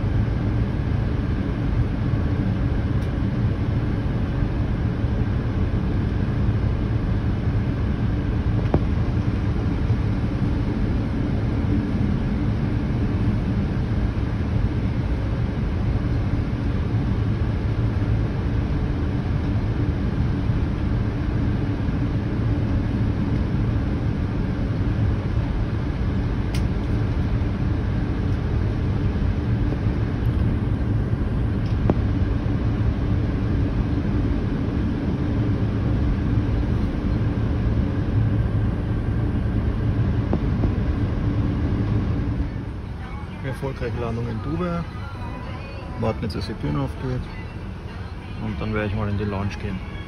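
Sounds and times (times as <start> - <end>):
airliner cabin engine rumble: 0.0 - 50.0.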